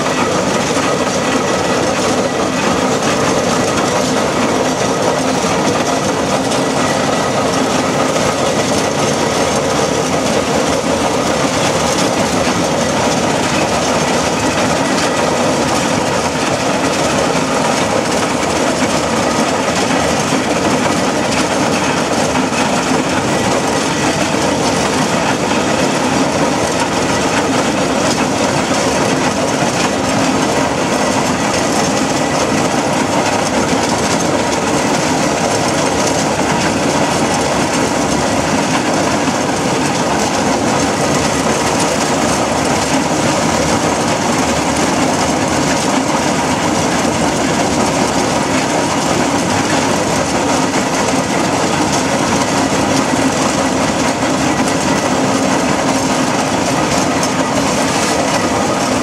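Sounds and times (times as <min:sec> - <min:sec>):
steam road roller running: 0:00.0 - 0:59.0.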